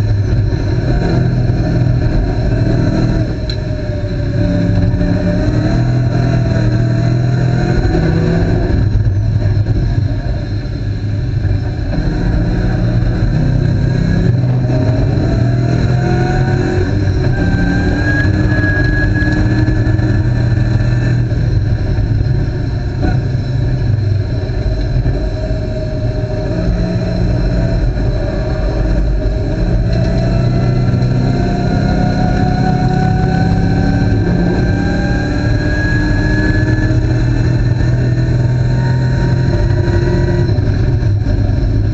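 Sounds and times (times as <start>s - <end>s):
race car engine running hard: 0.0s - 41.9s.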